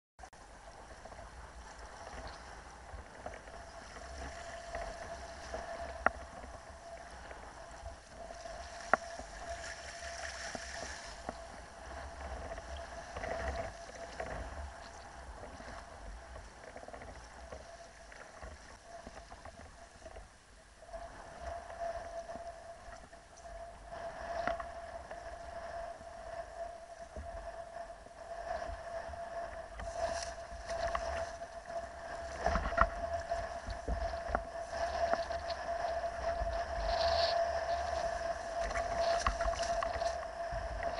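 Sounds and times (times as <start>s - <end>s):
wind on microphone: 0.2s - 40.9s
faint steady tone: 0.3s - 40.9s
water splashing around kayak: 0.4s - 27.4s, 28.5s - 40.9s.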